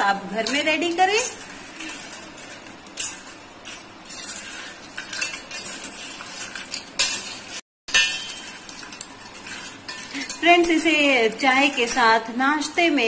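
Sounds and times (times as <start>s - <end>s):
fork scraping steel bowl: 0.4s - 12.0s.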